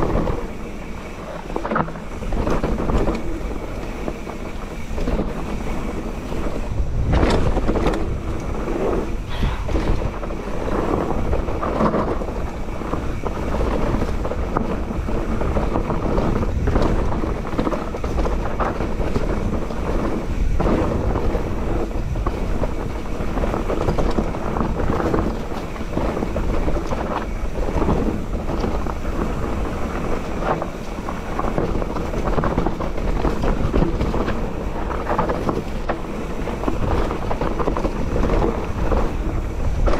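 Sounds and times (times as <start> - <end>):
bike knocking and rattling: 0.0 - 39.9
tyres rolling over dirt and rocks: 0.0 - 39.9
wind rushing over microphone: 0.0 - 39.9.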